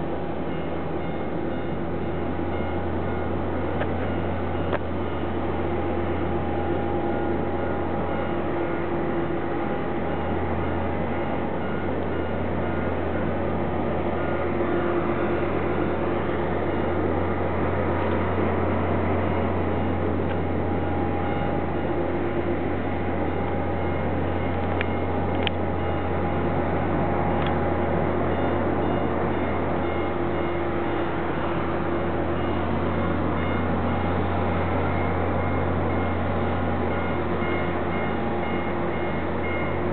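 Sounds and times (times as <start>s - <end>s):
steady whining tones: 0.0s - 39.9s
tow tractor mechanical hum: 0.0s - 39.9s.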